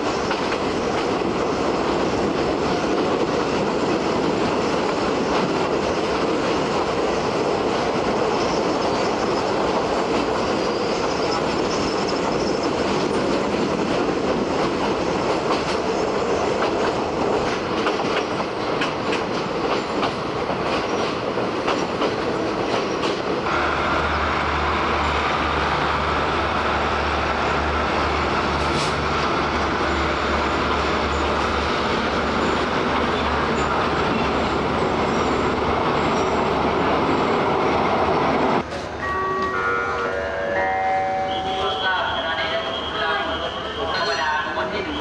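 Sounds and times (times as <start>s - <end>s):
train rumble with low drone: 0.0s - 45.0s.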